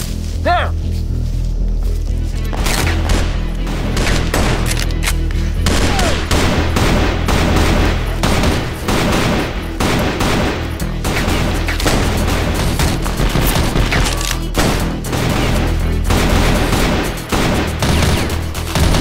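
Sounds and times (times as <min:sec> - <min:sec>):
film score with bass line: 0:00.0 - 0:19.0
rapid gunfire: 0:02.6 - 0:19.0.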